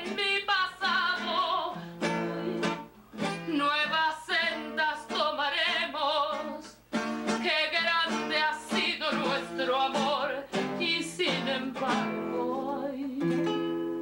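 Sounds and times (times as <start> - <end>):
woman singing with vibrato: 0.0 - 13.6
plucked acoustic guitar: 0.0 - 14.0.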